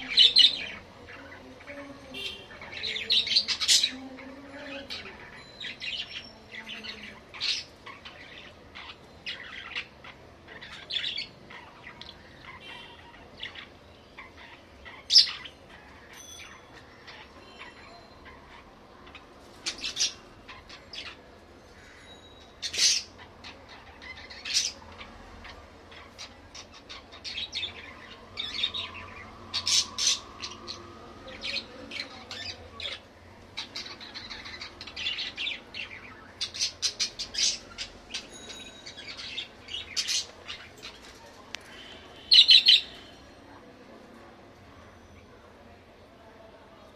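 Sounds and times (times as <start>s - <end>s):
budgerigars chirping and squawking: 0.0s - 43.1s.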